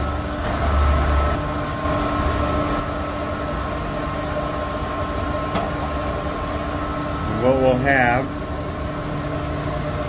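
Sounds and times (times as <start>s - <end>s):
machinery hum: 0.0s - 10.0s.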